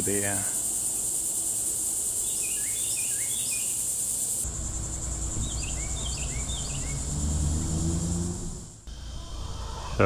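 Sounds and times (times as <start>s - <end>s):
bird chirping: 0.0s - 10.0s
insects droning: 0.0s - 10.0s.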